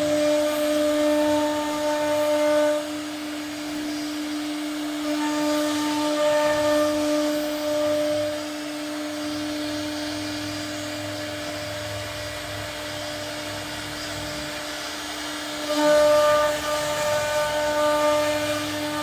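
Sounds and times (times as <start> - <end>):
router bit cutting wood: 0.0 - 19.0
router spindle whining: 0.0 - 19.0.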